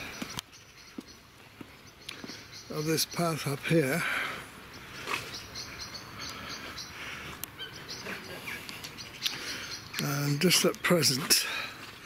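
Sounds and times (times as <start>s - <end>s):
birds chirping: 0.0s - 12.0s
low steady background noise: 0.0s - 12.0s.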